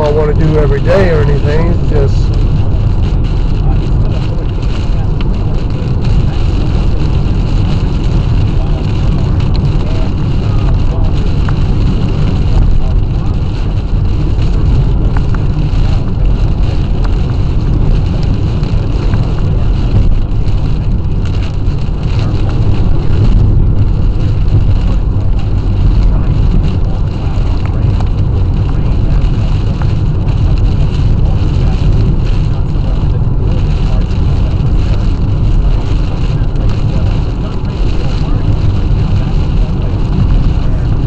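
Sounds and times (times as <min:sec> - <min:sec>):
car interior road and engine rumble: 0:00.0 - 0:41.0
wind noise: 0:00.0 - 0:41.0.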